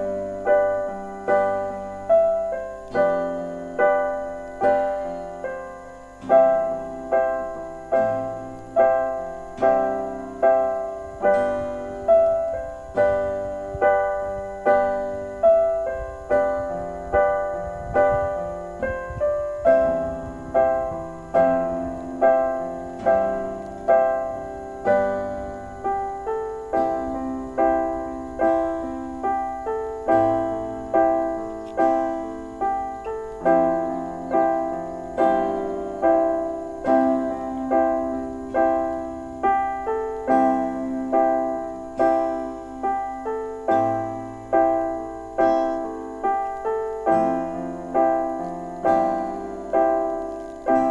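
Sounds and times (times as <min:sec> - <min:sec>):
gentle piano music: 0:00.0 - 0:50.9.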